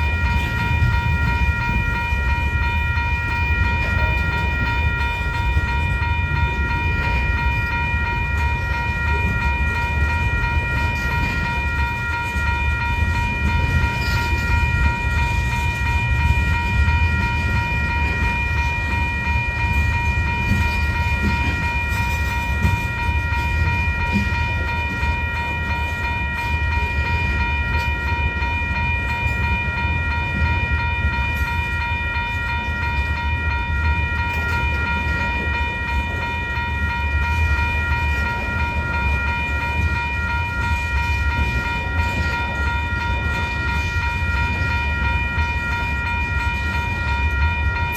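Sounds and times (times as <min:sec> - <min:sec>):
freight train rumbling: 0:00.0 - 0:47.9.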